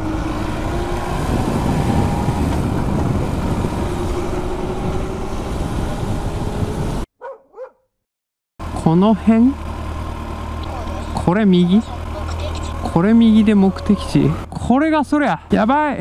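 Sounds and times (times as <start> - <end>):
motorcycle engine: 0.0 - 7.0, 8.6 - 15.5
wind and road noise: 0.0 - 7.1, 8.6 - 16.0.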